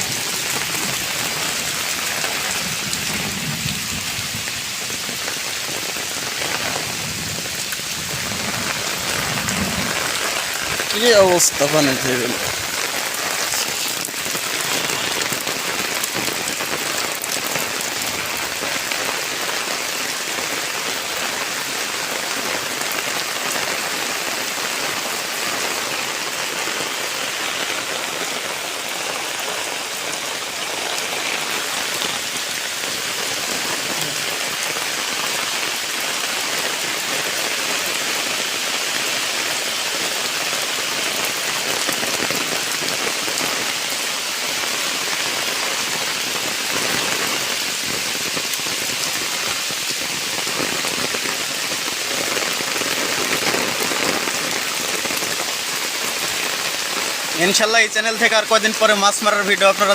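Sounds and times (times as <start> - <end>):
steady hiss of water: 0.0 - 59.9.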